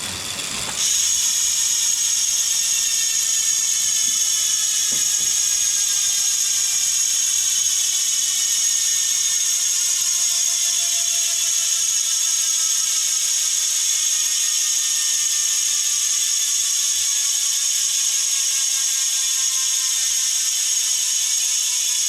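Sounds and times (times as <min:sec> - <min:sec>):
bicycle freehub ratcheting buzz: 0:00.0 - 0:22.0.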